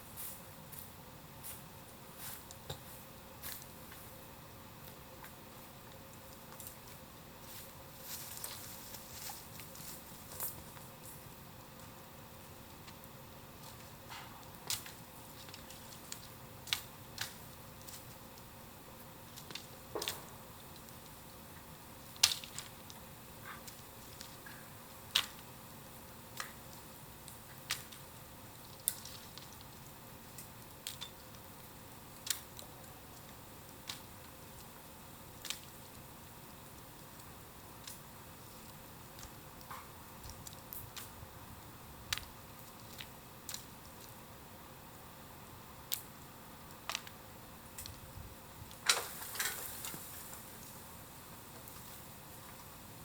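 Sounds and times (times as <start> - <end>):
bamboo fire crackling: 0.0 - 53.0
low steady fire hiss: 0.0 - 53.0.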